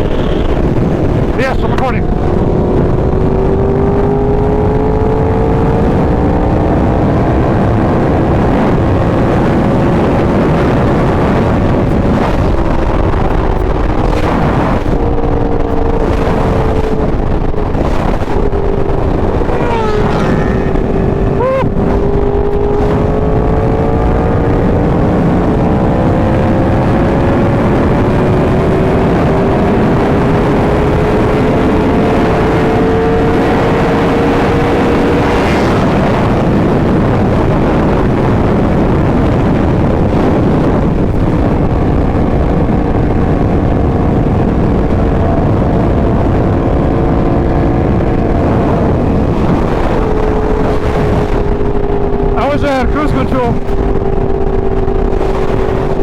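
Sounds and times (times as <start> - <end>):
motorcycle engine at speed: 0.0 - 56.0
wind rush on microphone: 0.0 - 56.0.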